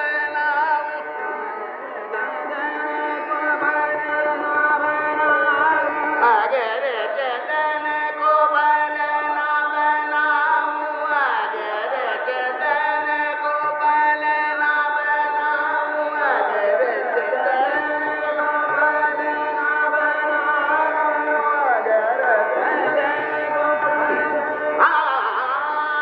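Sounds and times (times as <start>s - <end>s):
man singing classical vocal: 0.0s - 26.0s.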